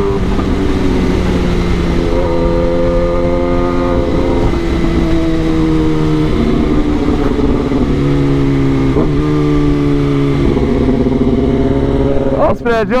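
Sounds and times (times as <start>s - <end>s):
motorcycle engine running: 0.0s - 13.0s
wind and road rumble: 0.0s - 13.0s.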